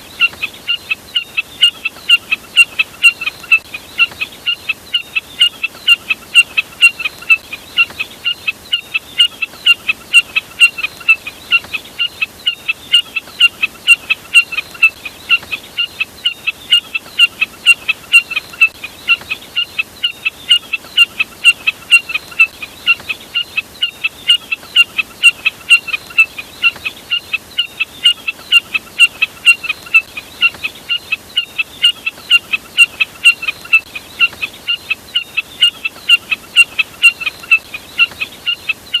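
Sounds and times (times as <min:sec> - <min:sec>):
jack snipe calling: 0:00.2 - 0:39.0.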